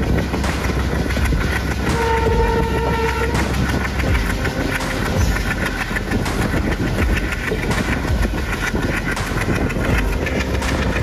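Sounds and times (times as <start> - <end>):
diesel locomotive rumble: 0.0 - 11.0
train wheels clattering over rails: 0.0 - 11.0.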